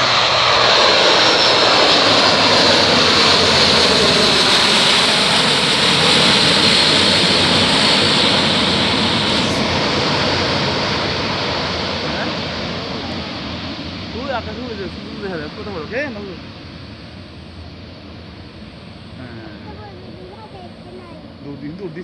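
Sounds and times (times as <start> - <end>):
airplane engines running: 0.0 - 22.0.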